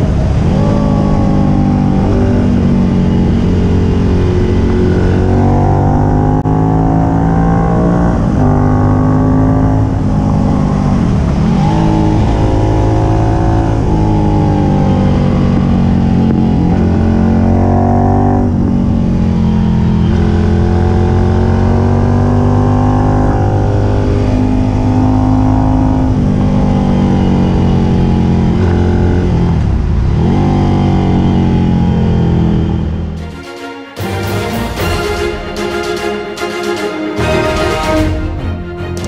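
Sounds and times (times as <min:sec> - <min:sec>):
motorcycle engine revving: 0:00.0 - 0:33.2.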